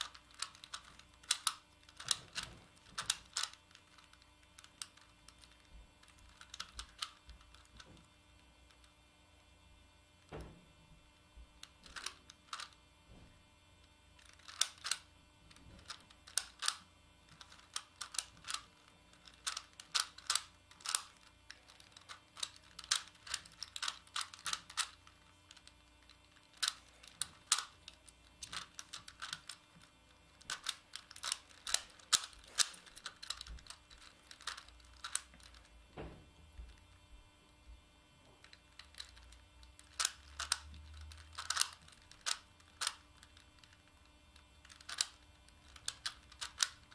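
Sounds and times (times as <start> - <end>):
puzzle cube clicking: 0.0 - 7.8, 11.6 - 12.8, 14.2 - 35.7, 38.4 - 46.9.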